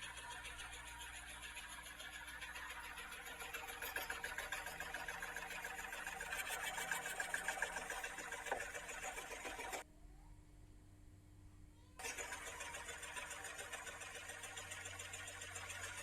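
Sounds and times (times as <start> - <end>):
scroll saw running: 0.0 - 9.8, 12.0 - 16.0.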